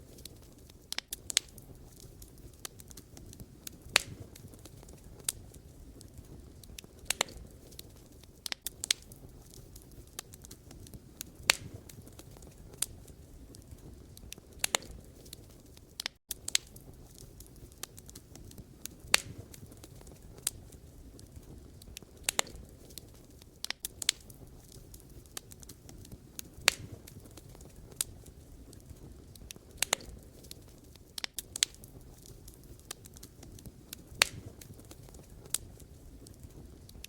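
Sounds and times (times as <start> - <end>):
low rumble of flames: 0.0 - 37.0
wood fire pops and snaps: 0.0 - 37.0.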